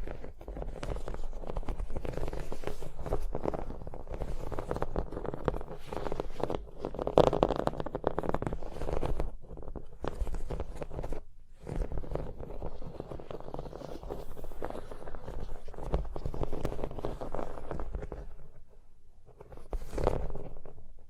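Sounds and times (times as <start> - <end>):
light scratches: 0.0 - 21.0.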